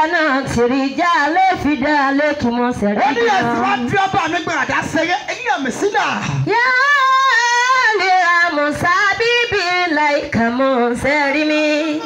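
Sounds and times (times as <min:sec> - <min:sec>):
woman singing into a microphone: 0:00.0 - 0:03.9, 0:06.2 - 0:12.0.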